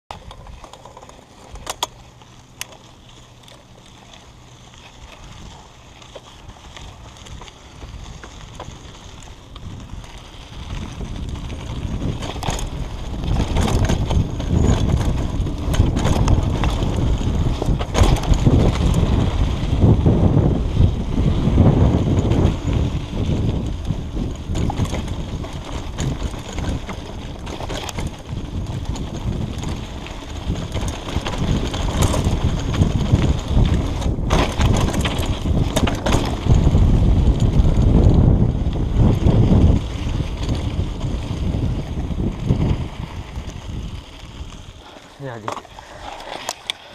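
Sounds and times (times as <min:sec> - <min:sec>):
bike clicks and rattles: 0:00.1 - 0:46.9
bike tyres rumbling on dirt: 0:00.1 - 0:46.9
wind buffeting microphone: 0:04.8 - 0:46.9.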